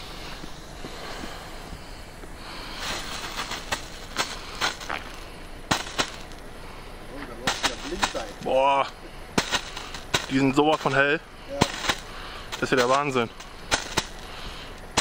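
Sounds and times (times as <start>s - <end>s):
fuse hissing: 0.0s - 15.0s.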